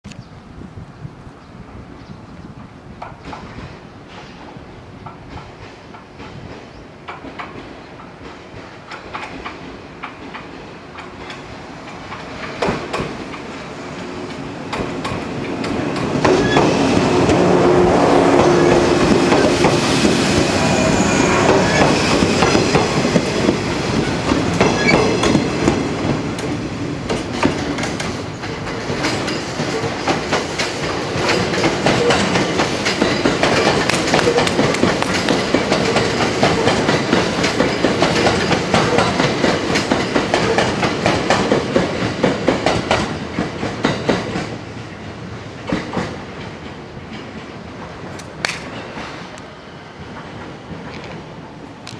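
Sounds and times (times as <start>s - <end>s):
train wheels clattering on rail joints: 2.5s - 44.9s, 45.5s - 49.4s
electric train passing: 2.6s - 51.9s.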